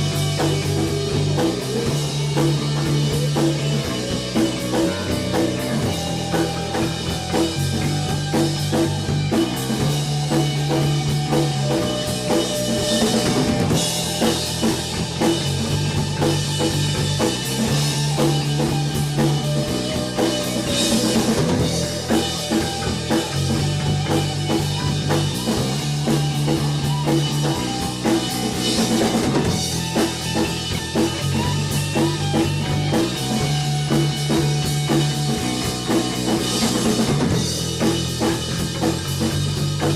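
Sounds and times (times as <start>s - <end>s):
bass line: 0.0s - 39.9s
rock band playing: 0.0s - 39.9s.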